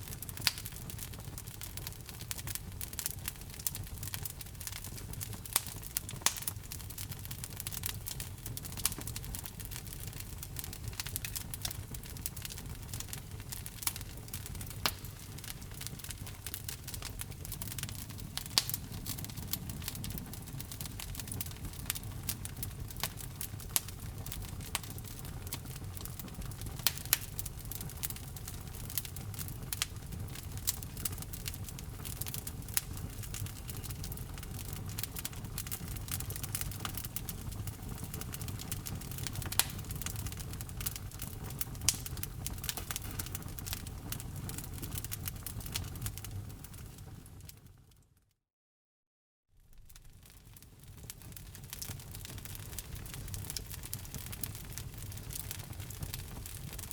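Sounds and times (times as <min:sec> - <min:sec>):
low rush of flame: 0:00.0 - 0:47.5
wood fire crackling and popping: 0:00.0 - 0:47.8, 0:49.7 - 0:56.9.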